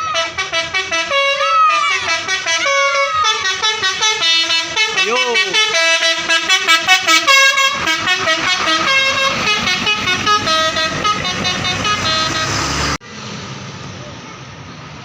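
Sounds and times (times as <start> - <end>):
bus multi-tone air horn tune: 0.0 - 13.0.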